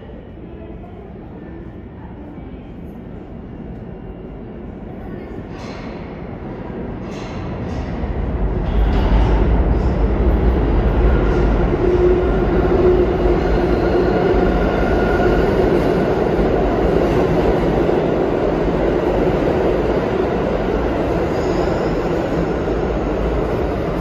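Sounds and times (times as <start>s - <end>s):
subway train rail rumble: 0.0s - 24.0s.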